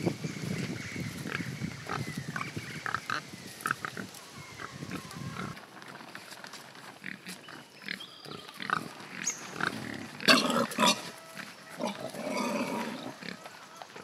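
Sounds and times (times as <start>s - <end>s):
pigs grunting and snuffling: 0.5s - 14.0s.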